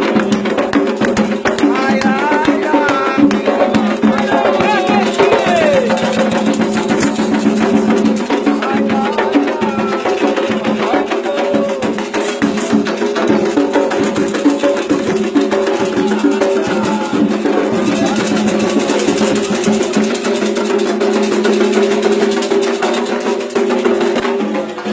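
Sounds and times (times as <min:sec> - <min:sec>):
hand drums playing: 0:00.0 - 0:24.9.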